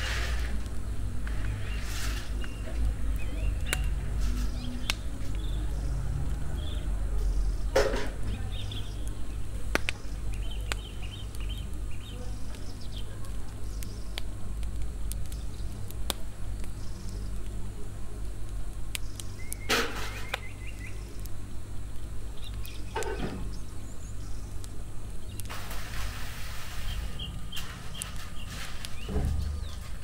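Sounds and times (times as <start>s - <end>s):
gas burner low rumble: 0.0s - 30.0s.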